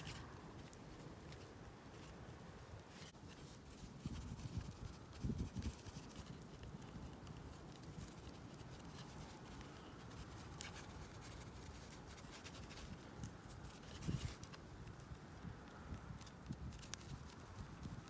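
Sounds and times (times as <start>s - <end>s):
light rubbing and ticking: 0.0s - 18.0s.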